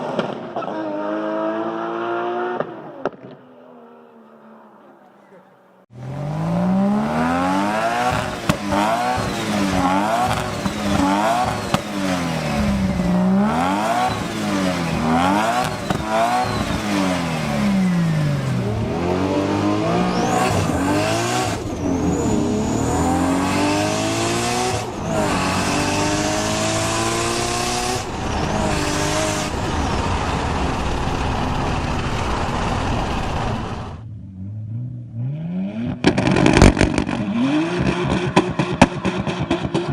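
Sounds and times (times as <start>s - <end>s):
car engine revving through gears: 0.9s - 3.1s, 5.9s - 39.9s.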